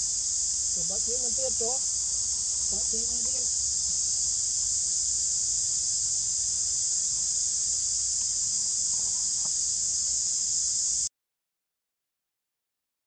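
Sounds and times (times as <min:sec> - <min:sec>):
shrill insect chorus: 0:00.0 - 0:11.1.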